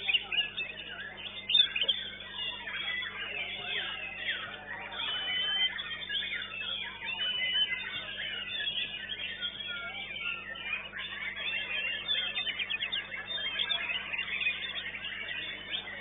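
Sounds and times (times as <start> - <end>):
bird singing whistles and chirps: 0.0 - 16.0
rapid bird trill: 0.0 - 16.0.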